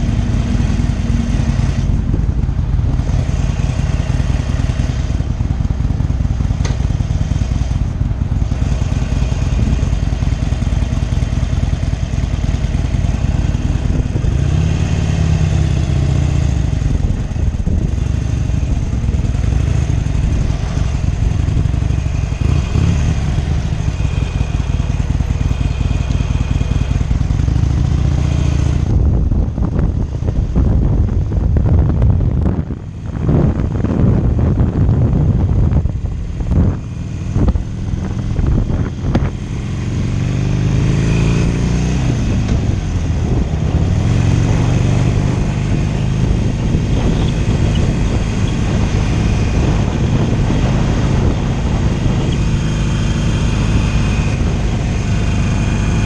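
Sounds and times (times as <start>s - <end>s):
wind rushing over microphone: 0.0s - 25.5s, 27.0s - 56.0s
motorcycle engine running: 0.0s - 56.0s.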